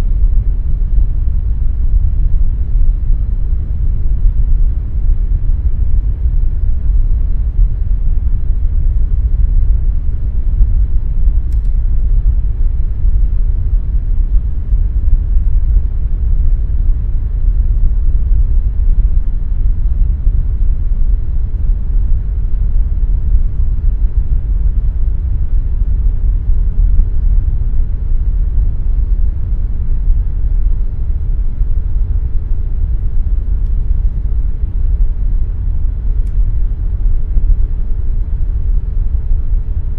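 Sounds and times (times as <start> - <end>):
air conditioner rumble: 0.0 - 39.9
faint hum: 0.0 - 39.9.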